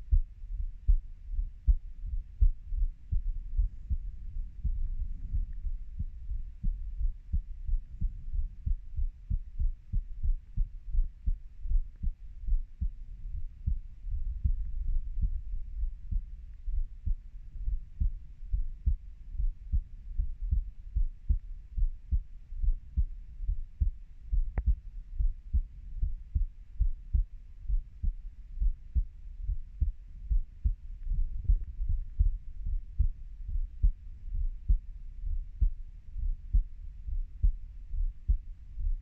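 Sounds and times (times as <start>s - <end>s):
heartbeat thumps: 0.0s - 39.0s.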